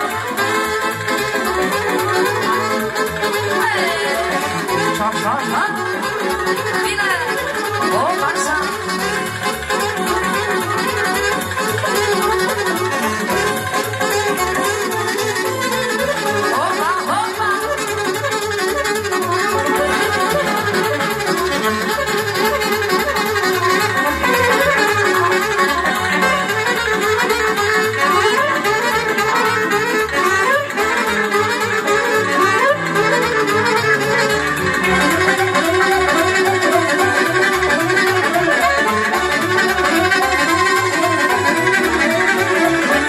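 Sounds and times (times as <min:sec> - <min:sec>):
keyboard backing: 0:00.0 - 0:43.0
saxophone melody: 0:00.0 - 0:43.0.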